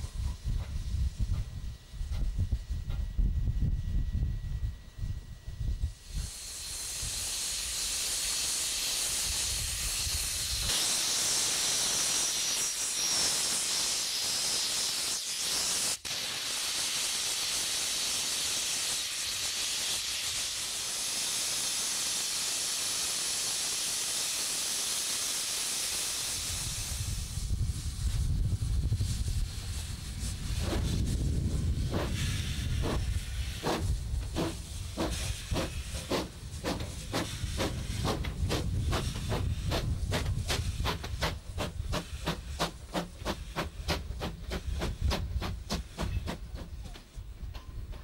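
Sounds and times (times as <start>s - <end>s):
locomotive steam hissing: 5.9s - 48.0s.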